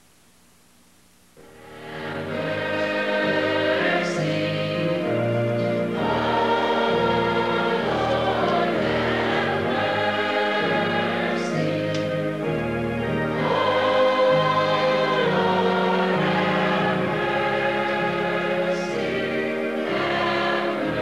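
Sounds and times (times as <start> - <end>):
congregation singing a hymn: 1.4 - 21.0.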